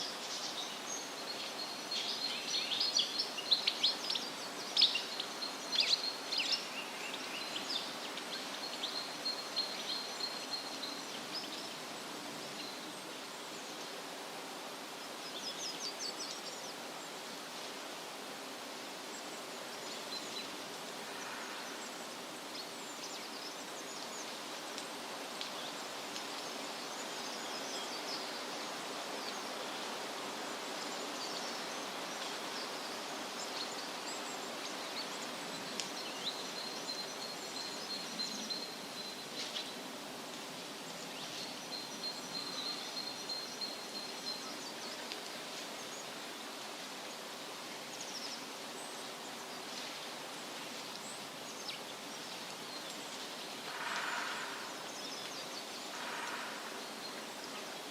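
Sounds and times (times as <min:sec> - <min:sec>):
wind rustling leaves: 0:00.0 - 0:57.9.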